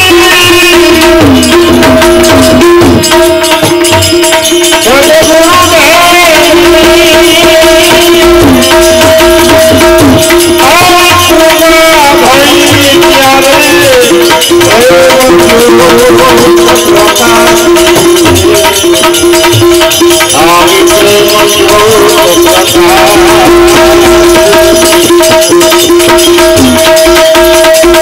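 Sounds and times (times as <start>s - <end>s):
man singing: 0.0s - 3.6s, 4.2s - 28.0s
hand percussion beat: 0.0s - 28.0s
harmonium: 0.0s - 28.0s.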